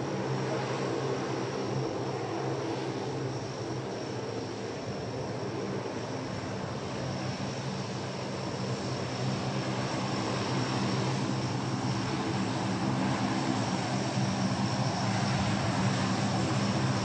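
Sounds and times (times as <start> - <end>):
turboprop aircraft engines droning: 0.0 - 17.0.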